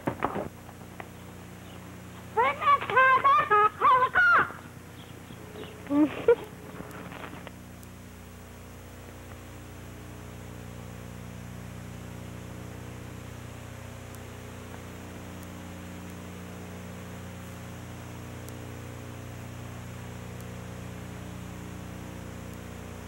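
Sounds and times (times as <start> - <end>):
constant hiss: 0.0 - 23.0
electrical mains hum: 0.0 - 23.0.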